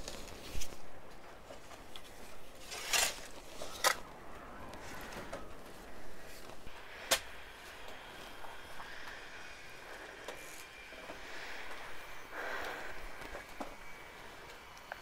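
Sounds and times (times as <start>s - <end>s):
scraping and rustling of soil: 0.0s - 15.0s.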